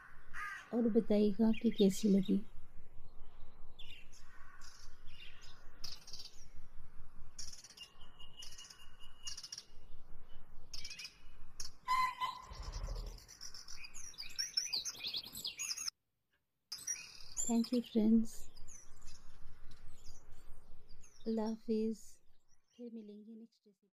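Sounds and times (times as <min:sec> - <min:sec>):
small birds chirping: 0:00.0 - 0:15.9, 0:16.7 - 0:23.7.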